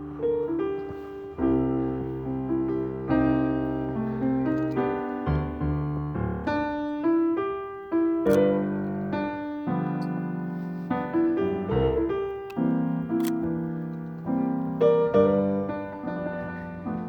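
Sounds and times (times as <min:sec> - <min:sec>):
jazz piano music: 0:00.0 - 0:17.0.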